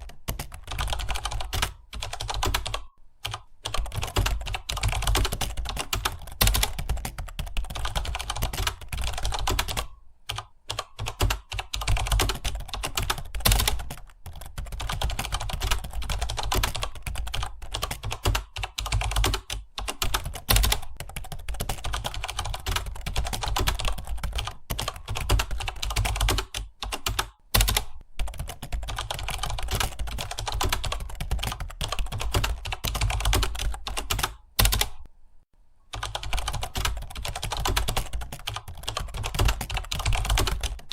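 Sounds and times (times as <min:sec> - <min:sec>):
fast typing on keyboard: 0:00.0 - 0:35.1, 0:35.9 - 0:40.9.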